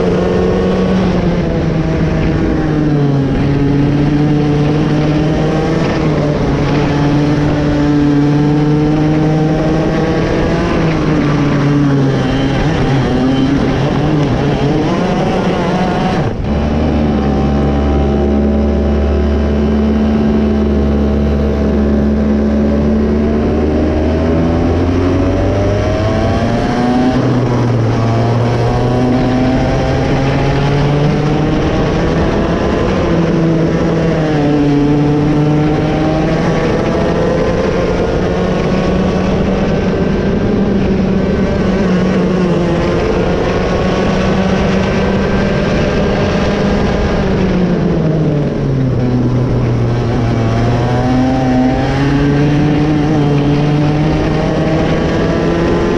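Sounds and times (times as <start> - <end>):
kart engine revving: 0.0 - 55.9.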